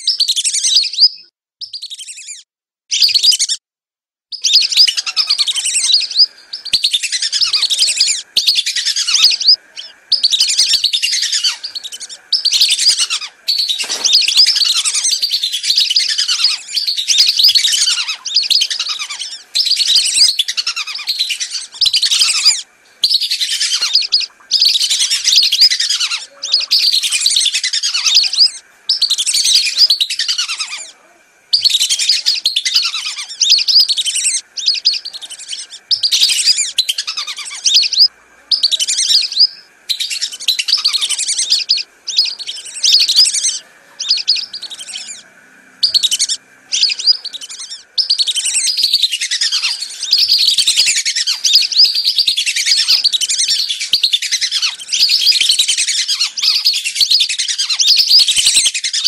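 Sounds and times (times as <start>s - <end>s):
ducks whistling in chorus: 0.0s - 3.6s, 4.4s - 59.0s.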